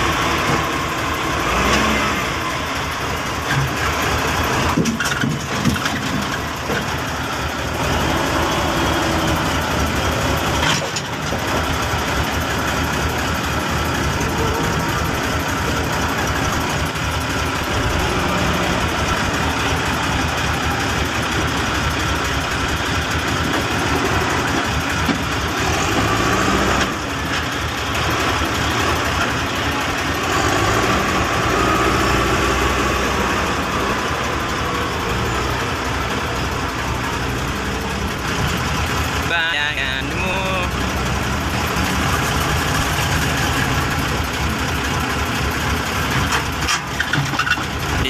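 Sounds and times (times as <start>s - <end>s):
heavy diesel machinery engine: 0.0s - 48.0s.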